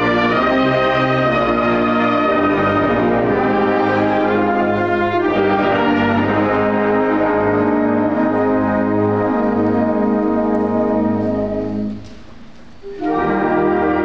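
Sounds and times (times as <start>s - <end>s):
flutes: 0.0s - 14.0s
low brass: 0.0s - 14.0s.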